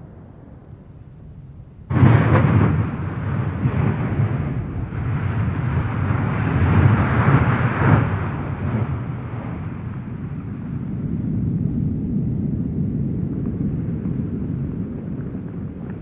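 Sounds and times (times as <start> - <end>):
eruption rushing noise: 1.8 - 16.0
volcano explosive blast: 1.9 - 16.0.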